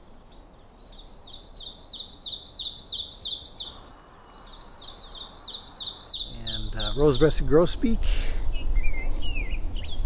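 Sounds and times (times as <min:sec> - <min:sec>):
warbler singing: 0:00.0 - 0:10.0.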